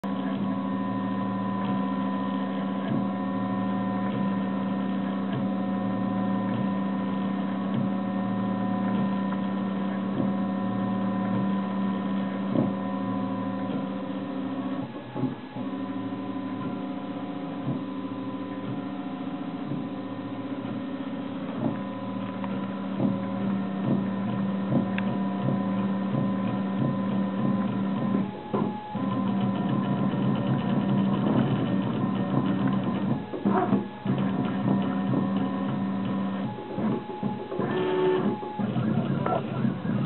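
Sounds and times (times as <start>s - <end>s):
printer humming: 0.0s - 40.0s.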